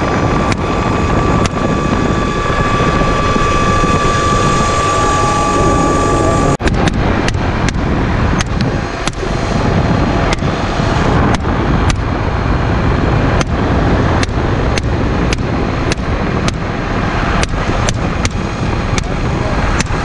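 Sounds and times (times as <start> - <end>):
helicopter: 0.0 - 20.0
wind noise: 0.0 - 20.0.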